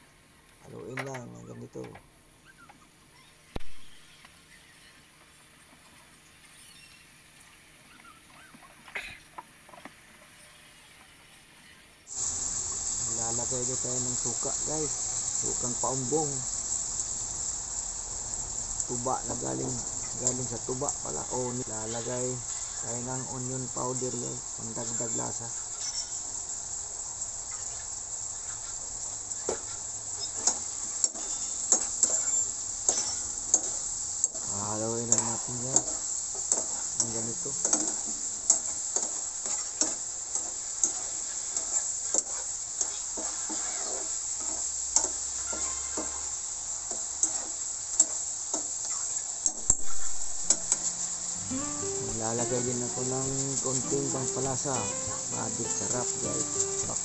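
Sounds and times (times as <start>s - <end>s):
food sizzling in a frying pan: 0.0s - 57.0s.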